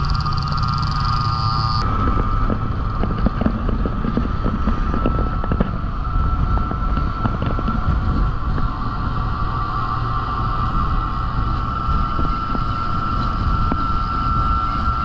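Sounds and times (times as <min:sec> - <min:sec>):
motorcycle engine drone: 0:00.0 - 0:15.0
wind on microphone: 0:00.0 - 0:15.0.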